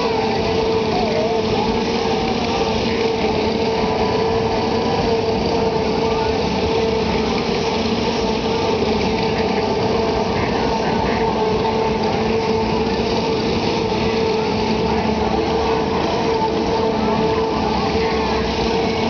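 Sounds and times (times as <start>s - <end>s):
fairground machinery droning: 0.0s - 19.0s.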